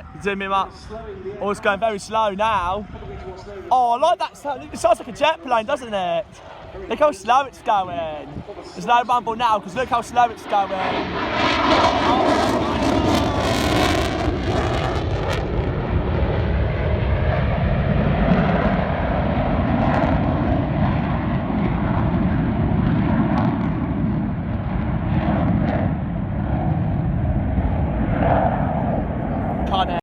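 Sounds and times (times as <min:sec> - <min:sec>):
aircraft engine running: 0:00.0 - 0:30.0.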